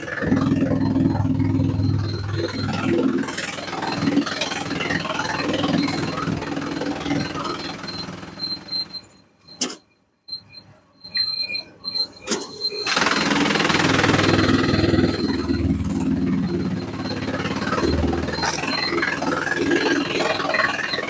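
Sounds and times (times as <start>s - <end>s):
sawmill machinery hum: 0.0s - 9.0s, 12.4s - 21.0s
harsh machine noise: 0.0s - 9.4s, 10.9s - 21.0s
thin high whine: 0.0s - 21.0s.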